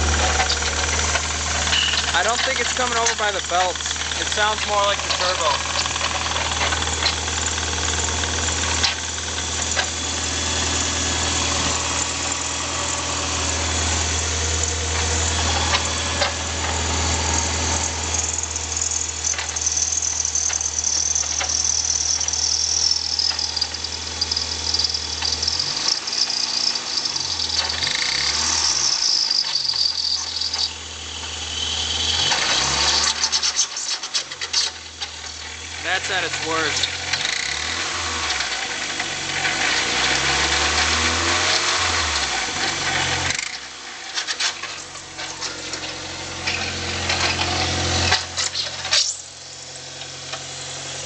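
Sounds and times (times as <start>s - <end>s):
metal grinding and scraping: 0.0s - 10.1s, 11.2s - 41.7s, 42.6s - 50.5s
exhaust leak clicking rattle: 0.0s - 31.4s, 32.0s - 51.0s
car engine running: 0.0s - 51.0s.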